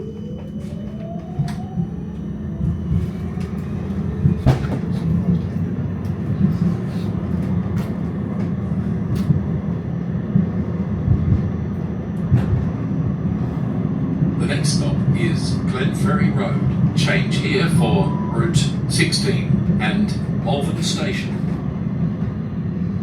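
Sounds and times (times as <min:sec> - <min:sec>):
tram motor whine: 0:00.0 - 0:23.0
wheels rumbling on rail: 0:00.0 - 0:23.0.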